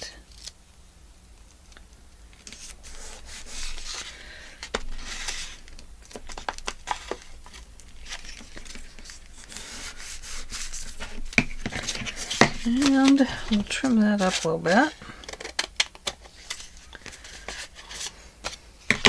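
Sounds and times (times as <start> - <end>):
paper rustling and scraping: 2.4 - 19.0.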